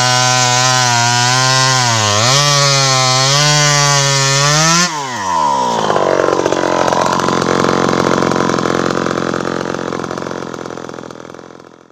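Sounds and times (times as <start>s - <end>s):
chainsaw engine revving and idling: 0.0s - 11.9s.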